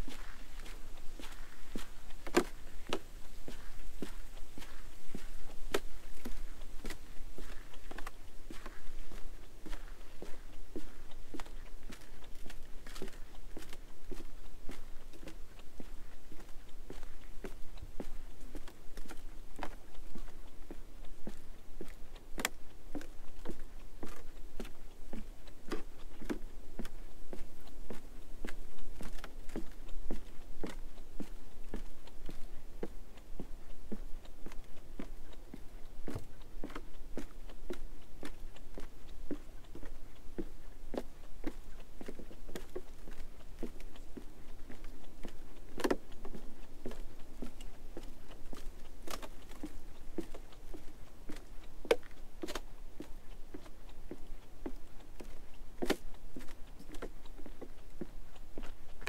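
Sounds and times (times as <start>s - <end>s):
footsteps on wooden boardwalk: 0.0s - 59.0s.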